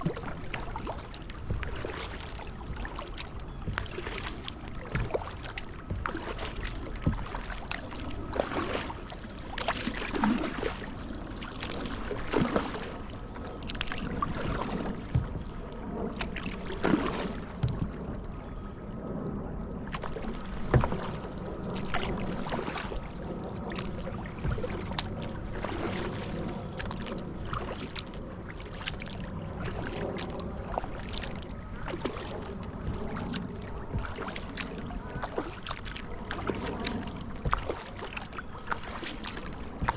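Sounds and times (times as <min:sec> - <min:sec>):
kayak paddle splashing: 0:00.0 - 0:39.9
water dripping off paddle: 0:00.0 - 0:39.9.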